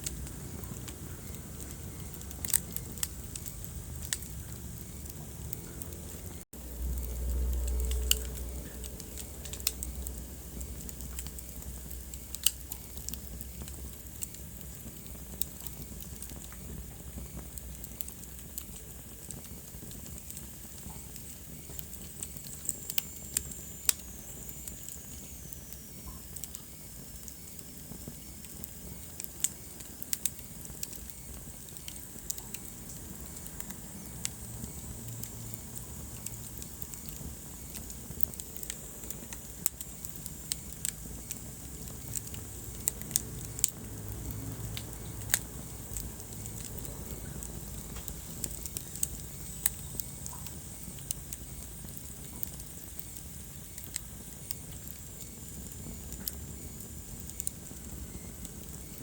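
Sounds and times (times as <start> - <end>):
low steady hiss: 0.0 - 59.0
wood fire crackling and popping: 0.0 - 59.0.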